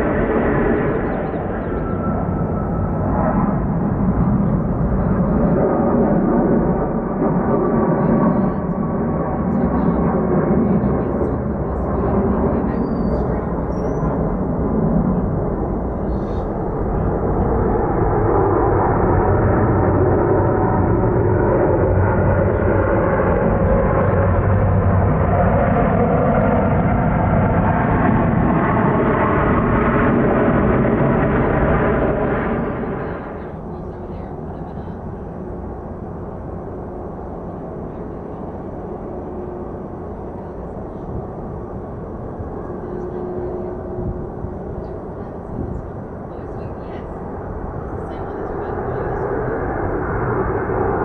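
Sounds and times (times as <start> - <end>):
jet engines rumbling: 0.0 - 51.0
low hum: 0.0 - 51.0.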